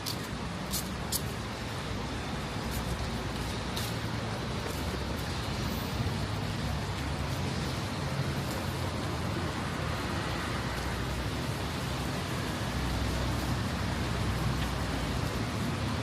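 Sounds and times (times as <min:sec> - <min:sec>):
traffic passing in rain: 0:00.0 - 0:16.0.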